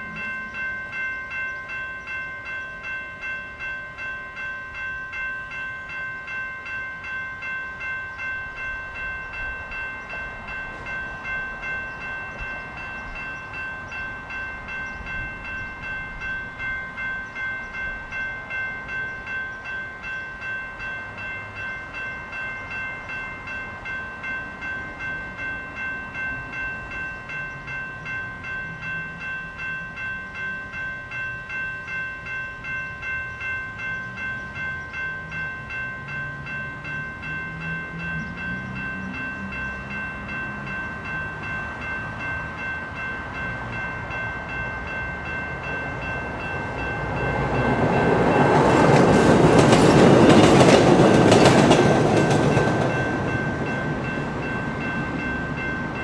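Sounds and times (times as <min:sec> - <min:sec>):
electronic railroad crossing bell: 0:00.0 - 0:56.0.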